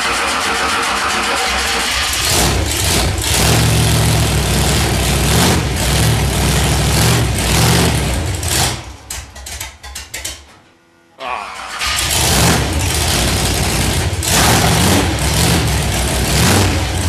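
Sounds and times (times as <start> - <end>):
car engine revving: 0.0 - 9.1, 11.5 - 17.0.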